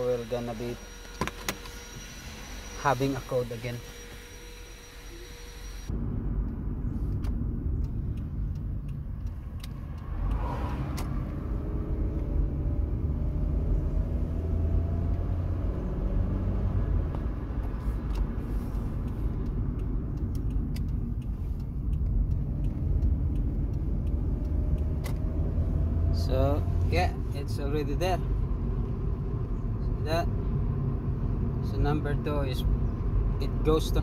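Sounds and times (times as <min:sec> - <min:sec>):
road rumble: 0:00.0 - 0:34.0
car engine accelerating: 0:04.8 - 0:34.0.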